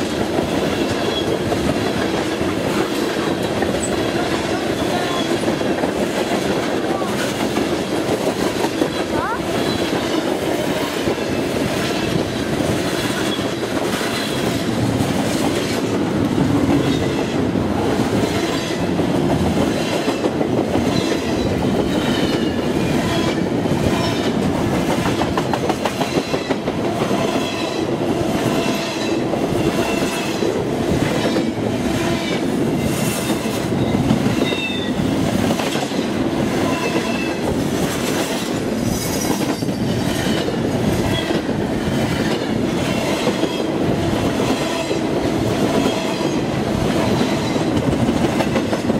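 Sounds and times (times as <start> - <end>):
train wheels clicking over rail joints: 0.0 - 48.9.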